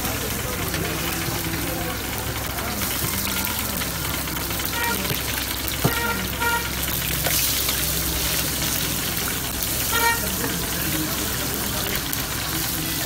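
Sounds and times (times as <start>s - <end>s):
patties sizzling in hot oil: 0.0s - 13.0s.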